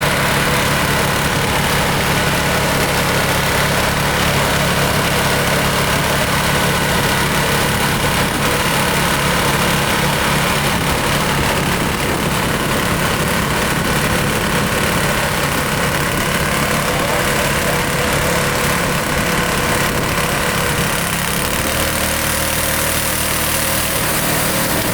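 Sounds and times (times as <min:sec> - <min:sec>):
sawmill engine idling: 0:00.0 - 0:24.9.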